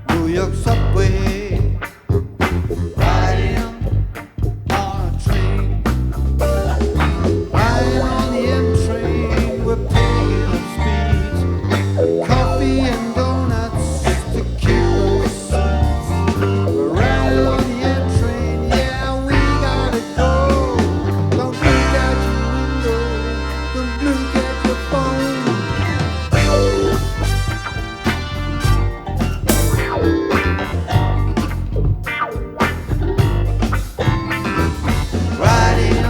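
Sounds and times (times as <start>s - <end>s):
live rock band playing: 0.0s - 36.0s
lead guitar bending notes: 5.4s - 36.0s.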